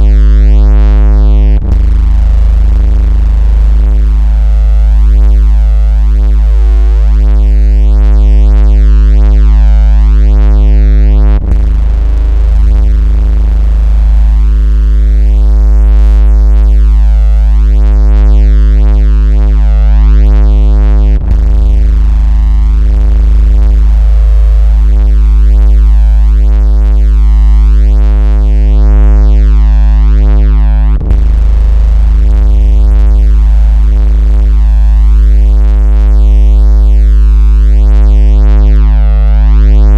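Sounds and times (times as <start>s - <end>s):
deep bass vibration hum: 0.0s - 39.9s.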